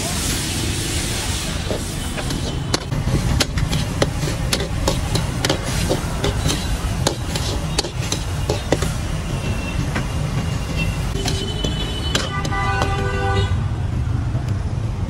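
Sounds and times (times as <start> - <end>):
steady low rumble: 1.0 - 13.3
metal ladle scraping a wok: 1.3 - 13.5.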